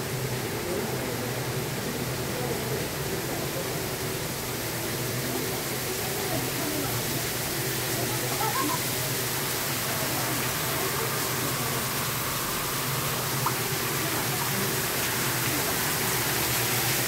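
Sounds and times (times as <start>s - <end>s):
waterfall splashing into pool: 0.5s - 17.0s.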